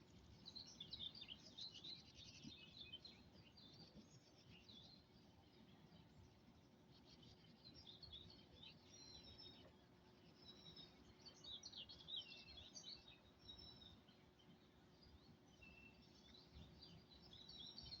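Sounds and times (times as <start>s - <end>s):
low outdoor background hum: 0.0s - 18.0s
songbirds chirping: 0.0s - 18.0s.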